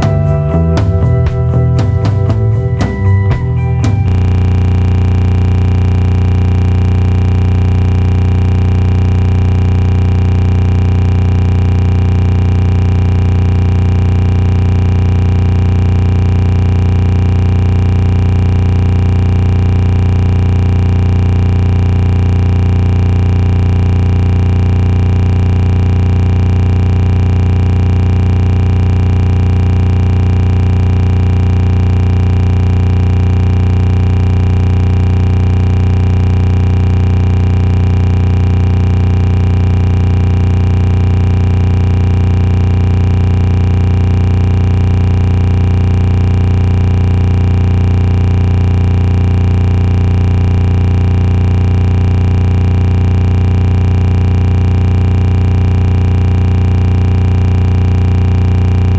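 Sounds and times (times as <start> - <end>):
electronic drone: 0.0 - 48.4
fast low pulsing: 0.0 - 51.8.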